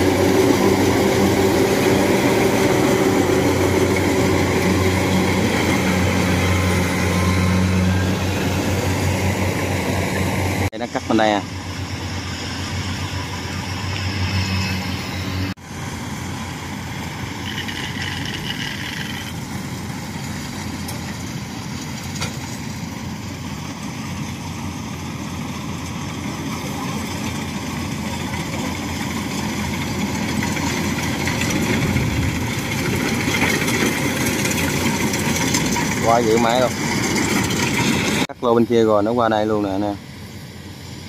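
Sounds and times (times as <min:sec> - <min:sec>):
combine harvester running: 0:00.0 - 0:41.0.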